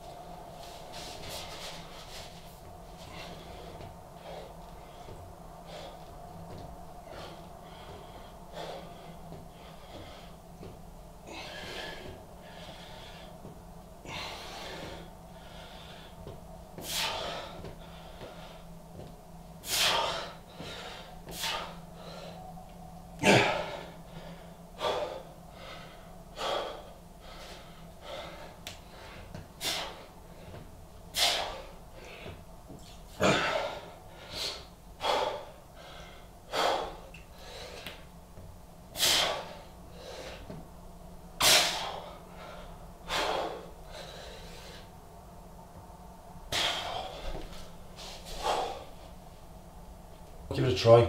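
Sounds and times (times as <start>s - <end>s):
man breathing hard: 0.3s - 40.6s, 41.4s - 45.0s, 46.5s - 49.2s.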